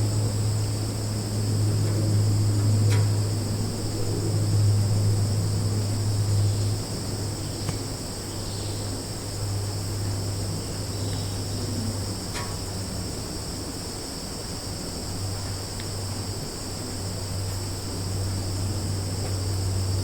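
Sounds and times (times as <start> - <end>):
crickets and insects chorus: 0.0 - 20.0.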